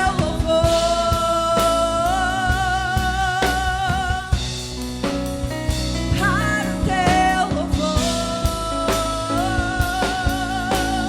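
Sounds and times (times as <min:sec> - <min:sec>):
worship band with drum kit: 0:00.0 - 0:11.0.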